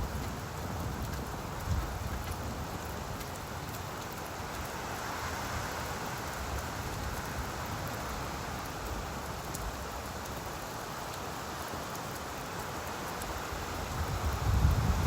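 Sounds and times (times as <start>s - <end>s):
faint raindrop ticks: 0.0s - 14.9s
rain falling on leaves: 0.0s - 15.0s.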